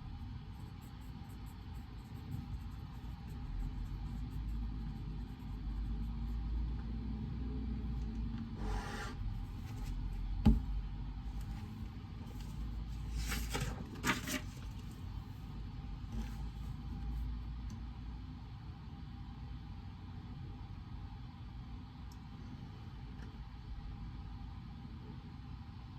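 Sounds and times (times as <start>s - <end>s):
steady low hum: 0.0s - 13.6s, 14.5s - 25.9s.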